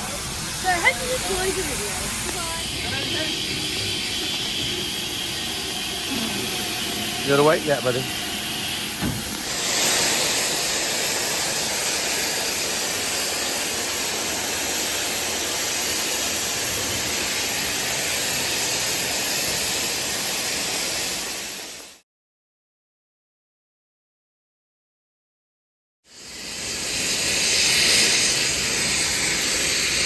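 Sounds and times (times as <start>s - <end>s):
locomotive venting steam hiss: 0.0s - 22.0s, 26.1s - 30.0s.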